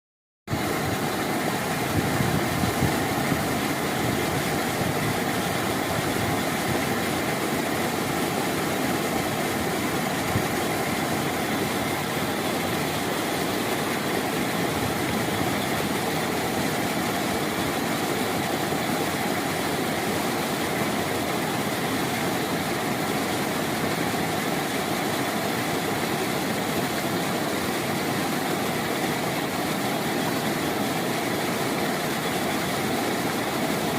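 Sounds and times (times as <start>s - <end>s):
rushing water roar: 0.5s - 33.9s.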